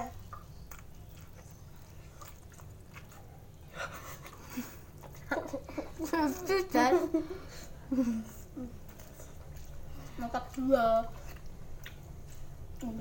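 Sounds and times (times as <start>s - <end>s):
person chewing: 0.0s - 5.7s, 7.6s - 13.0s.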